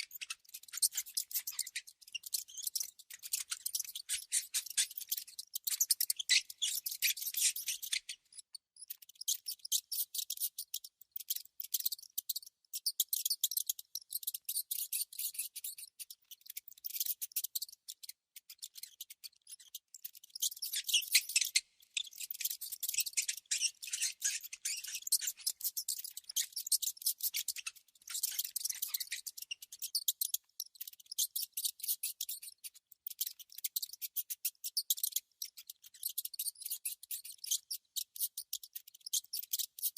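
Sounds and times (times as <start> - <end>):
mouse scratching and clicking: 0.0 - 39.9.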